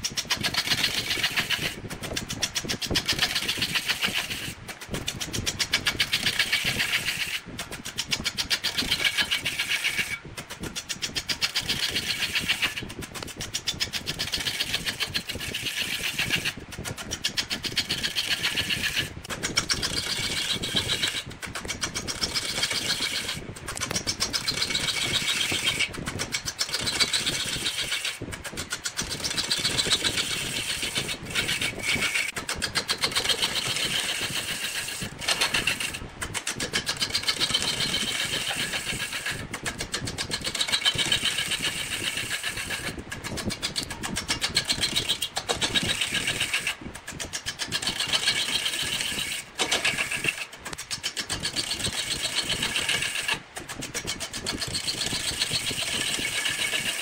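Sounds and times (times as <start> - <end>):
wood lathe cutting wood: 0.1 - 57.0.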